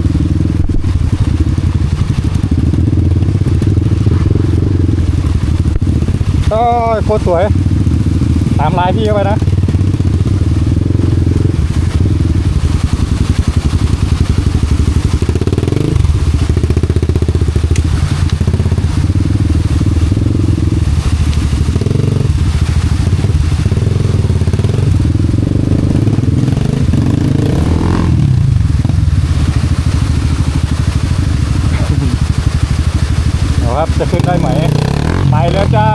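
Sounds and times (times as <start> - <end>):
motorcycle engine running hard: 0.0 - 35.9.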